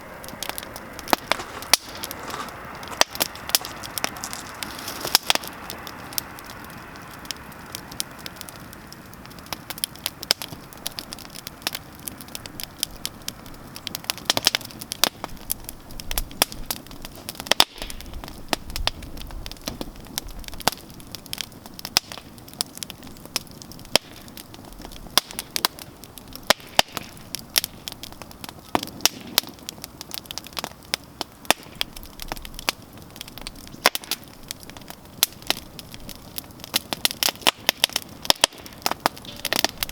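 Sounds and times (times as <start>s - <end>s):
campfire crackling and popping: 0.0s - 39.9s
soft fire hiss: 0.0s - 39.9s.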